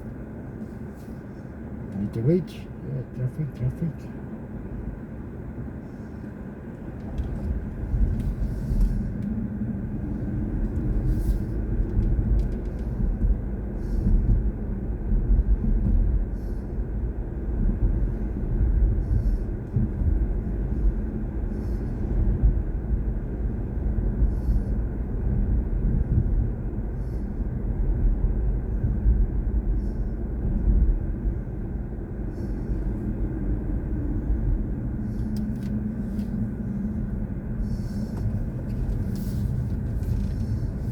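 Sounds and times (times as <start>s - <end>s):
road and tyre rumble: 0.0s - 40.9s.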